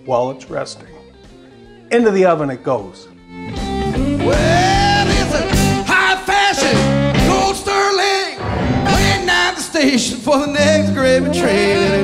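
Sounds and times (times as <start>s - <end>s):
song with sliding lead melody: 0.0s - 12.0s.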